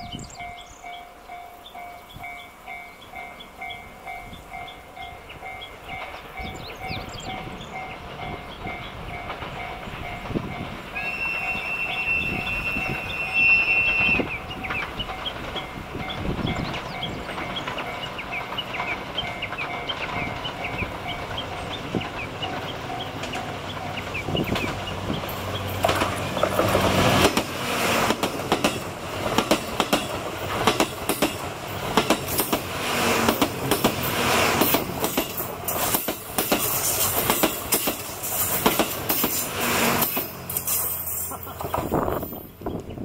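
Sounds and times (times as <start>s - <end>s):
train wheels clicking over rail joints: 0.4s - 43.0s.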